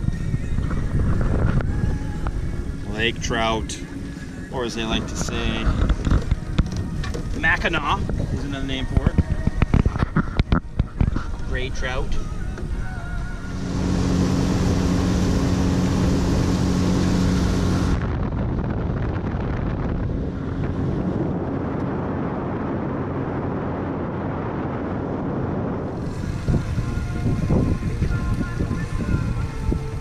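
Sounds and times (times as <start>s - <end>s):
outboard motor drone: 0.0s - 8.8s, 9.4s - 30.0s
wind on microphone: 0.0s - 30.0s.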